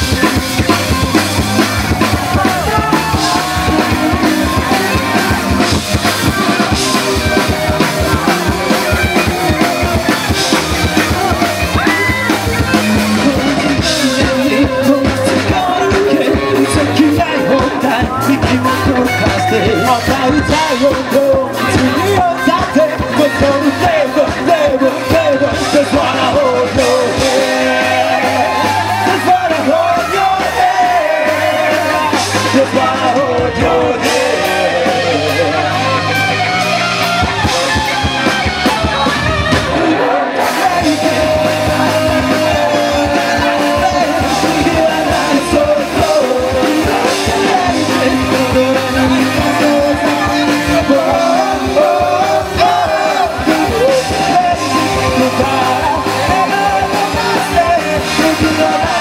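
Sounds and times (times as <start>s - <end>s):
sung vocals: 0.0s - 36.4s, 37.4s - 59.0s
drums: 0.0s - 59.0s
electric guitar: 0.0s - 59.0s
live rock band playing: 0.0s - 59.0s.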